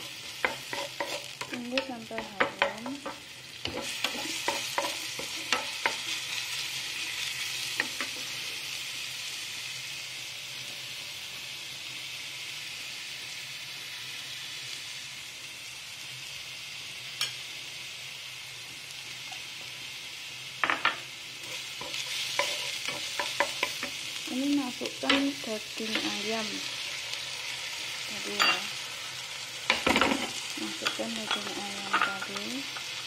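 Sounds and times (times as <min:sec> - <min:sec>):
garlic sizzling in a pan: 0:00.0 - 0:33.0.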